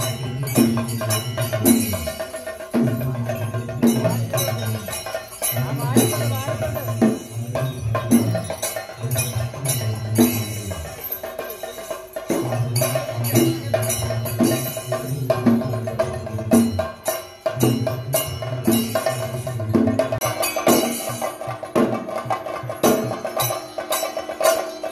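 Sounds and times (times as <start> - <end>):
music with percussion strikes: 0.0 - 24.9.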